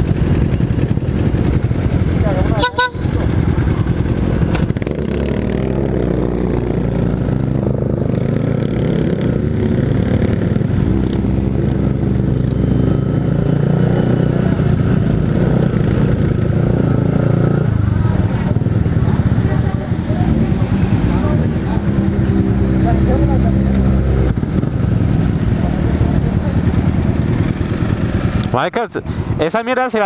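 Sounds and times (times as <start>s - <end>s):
motorcycle engine running: 0.0s - 29.4s.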